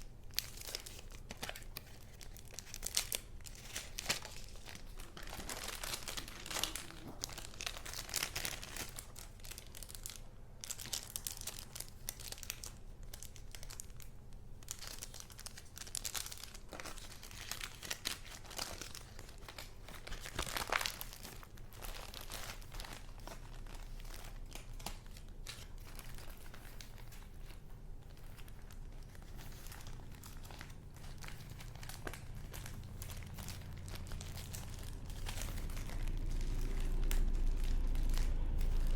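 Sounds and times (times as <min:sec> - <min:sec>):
paper rustling and crinkling: 0:00.0 - 0:38.9.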